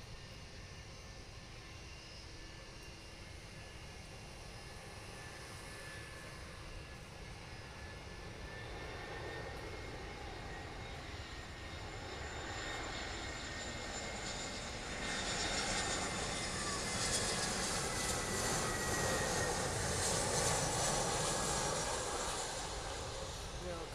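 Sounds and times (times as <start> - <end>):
jet airliner passing overhead: 0.0 - 23.9.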